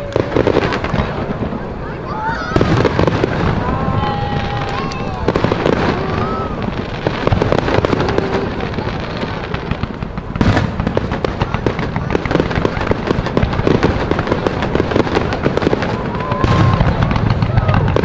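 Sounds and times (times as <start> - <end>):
fireworks crackling and bursting: 0.0 - 18.0.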